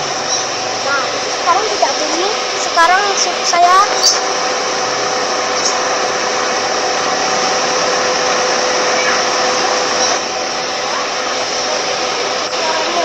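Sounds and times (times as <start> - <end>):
car blower fan whooshing: 0.0 - 13.0.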